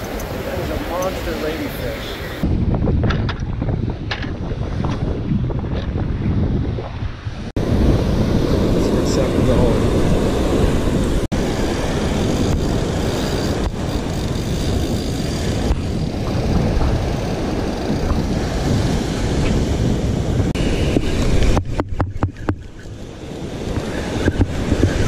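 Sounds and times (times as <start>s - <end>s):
beach surf: 0.0s - 2.6s, 3.9s - 25.0s
wind buffeting microphone: 0.0s - 25.0s.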